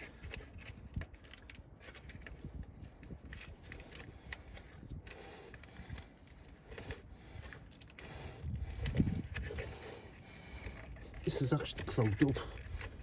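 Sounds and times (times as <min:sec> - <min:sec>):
hands handling parts: 0:00.0 - 0:13.0.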